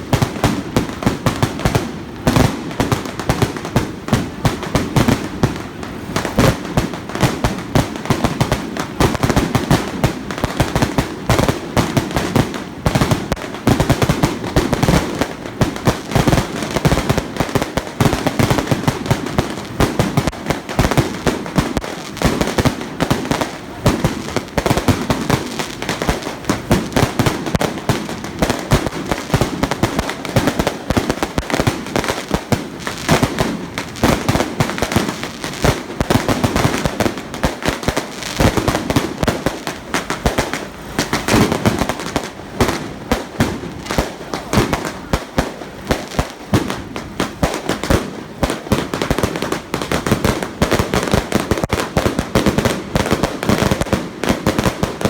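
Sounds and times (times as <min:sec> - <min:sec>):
firecrackers going off: 0:00.0 - 0:55.0.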